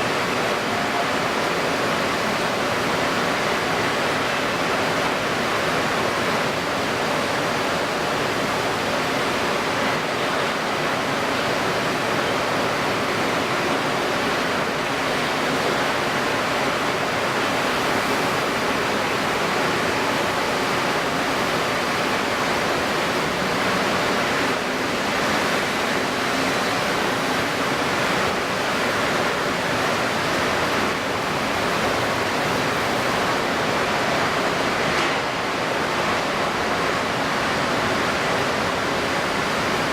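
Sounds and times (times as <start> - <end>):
choppy water rushing: 0.0 - 39.9
strong wind: 0.0 - 39.9.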